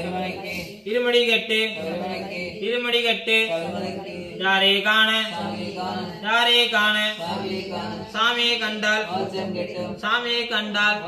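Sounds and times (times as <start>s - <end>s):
person singing a devotional chant: 0.0s - 11.0s.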